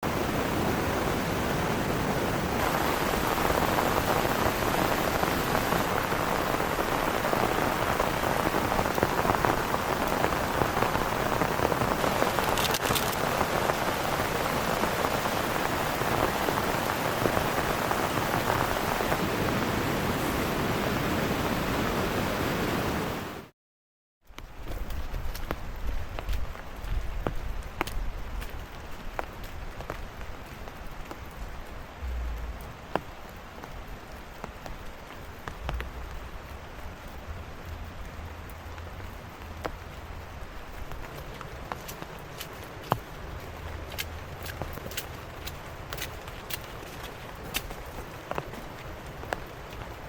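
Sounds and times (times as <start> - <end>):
heavy rain falling: 0.0 - 23.5, 24.5 - 50.0.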